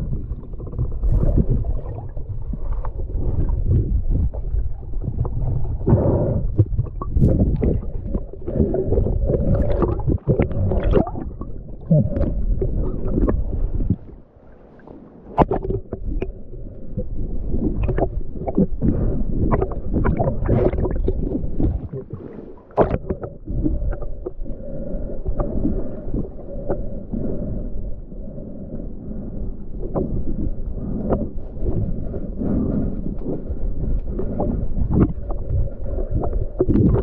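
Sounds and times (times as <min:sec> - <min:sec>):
underwater gurgling and bubbling: 0:00.0 - 0:14.3, 0:15.3 - 0:37.0.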